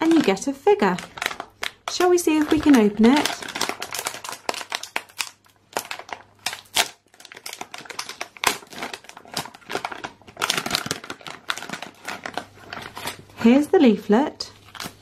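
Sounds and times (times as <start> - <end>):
plastic packet being torn open: 0.0 - 13.6, 14.6 - 15.0
wrapper crinkling and crackling: 0.0 - 15.0.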